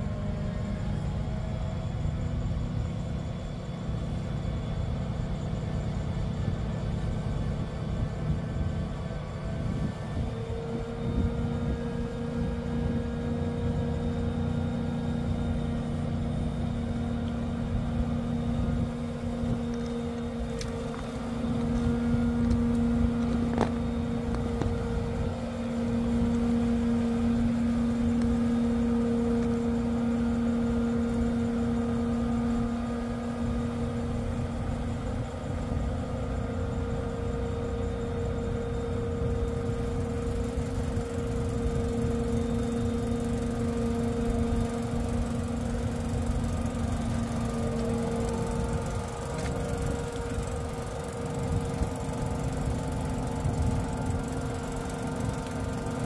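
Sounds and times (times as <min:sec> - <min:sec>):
crane diesel engine running: 0:00.0 - 0:56.0.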